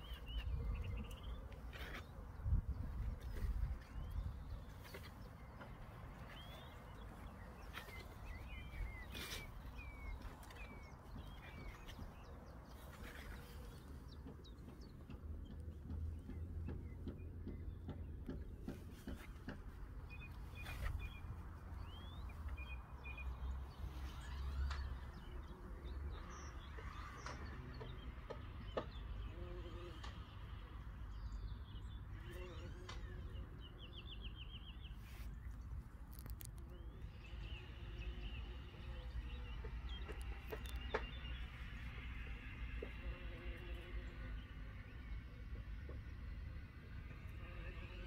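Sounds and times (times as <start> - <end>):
birds chirping: 0.0 - 46.3.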